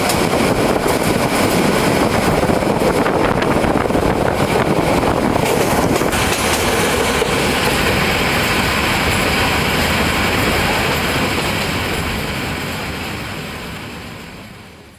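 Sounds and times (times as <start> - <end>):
train wheels on track: 0.0 - 14.9.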